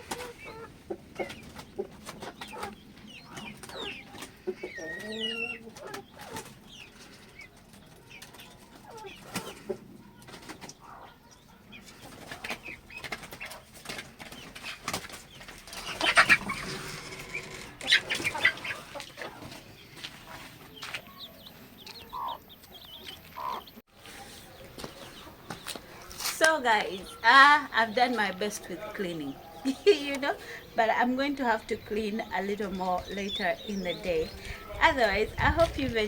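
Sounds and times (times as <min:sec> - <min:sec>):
hens clucking: 0:00.0 - 0:36.0.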